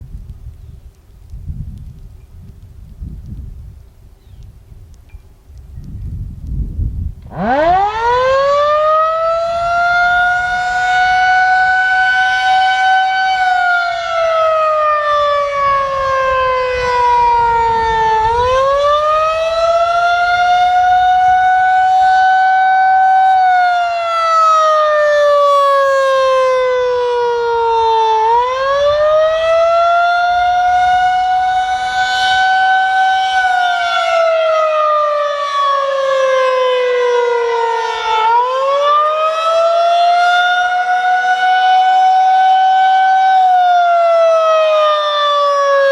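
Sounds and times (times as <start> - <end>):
warning siren wailing: 7.2 - 45.9.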